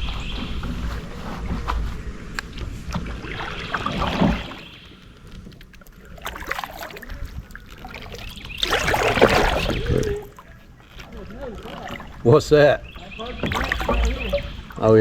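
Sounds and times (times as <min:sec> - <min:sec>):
kayak paddle splashing water: 0:00.0 - 0:15.0.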